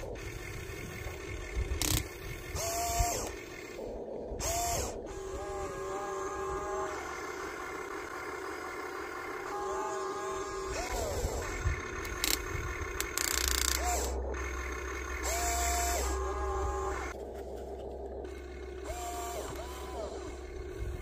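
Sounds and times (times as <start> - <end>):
low hum: 0.0 - 21.0
small electric motors whining: 0.0 - 21.0.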